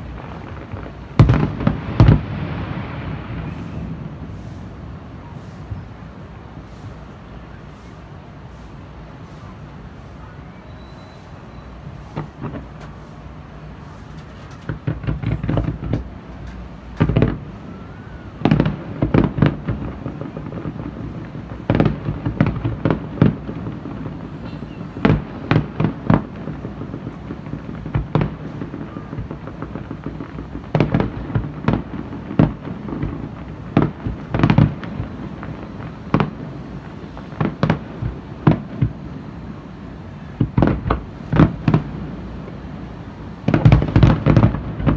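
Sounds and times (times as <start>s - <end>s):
fireworks bursting with bangs: 0.0s - 44.9s.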